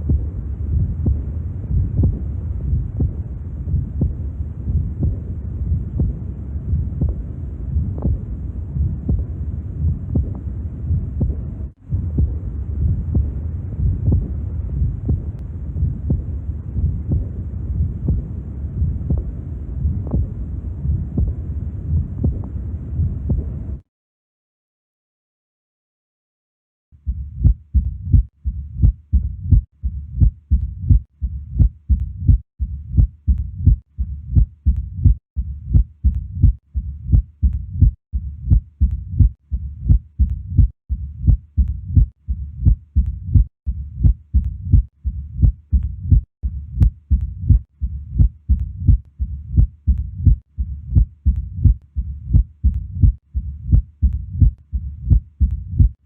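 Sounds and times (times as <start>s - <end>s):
heartbeat through stethoscope: 0.0s - 23.8s, 27.0s - 56.0s.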